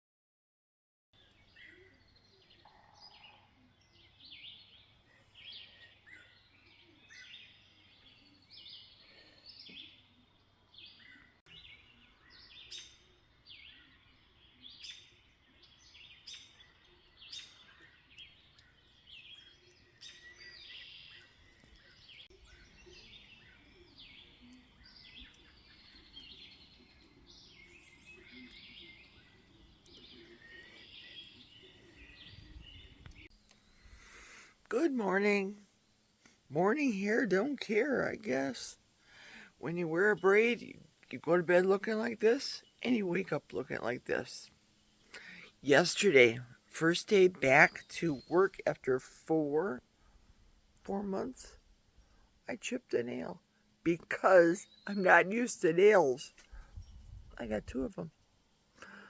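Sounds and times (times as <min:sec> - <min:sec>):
songbirds chirping: 0:01.2 - 0:59.0.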